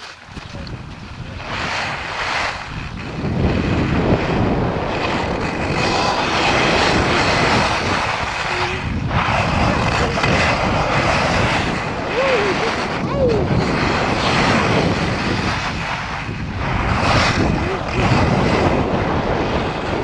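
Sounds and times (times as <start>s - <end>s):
skis scraping over packed snow: 0.0s - 20.0s
wind buffeting microphone: 0.0s - 20.0s.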